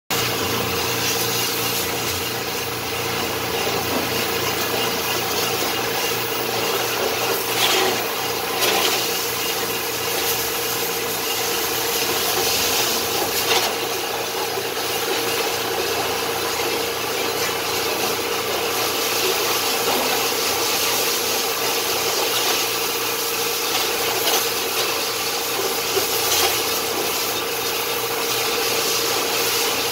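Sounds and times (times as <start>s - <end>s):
pressure washer jet spattering: 0.2s - 29.9s.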